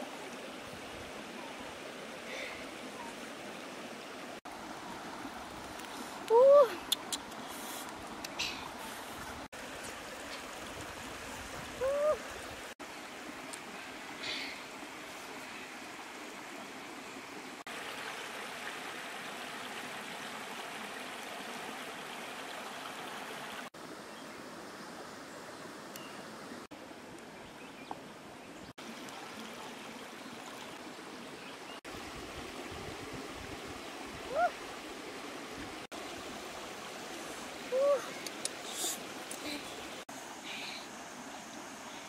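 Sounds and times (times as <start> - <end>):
flowing stream: 0.0 - 42.0.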